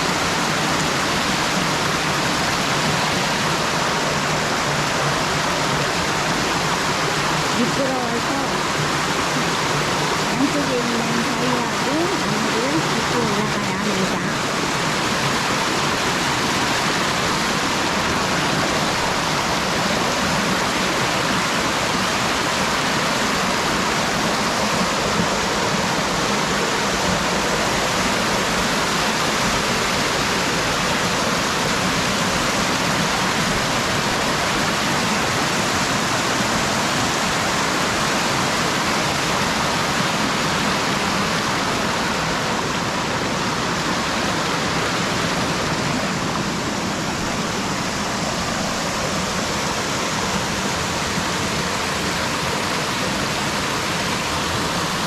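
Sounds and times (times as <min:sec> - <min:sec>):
stream splashing over rock: 0:00.0 - 0:55.0.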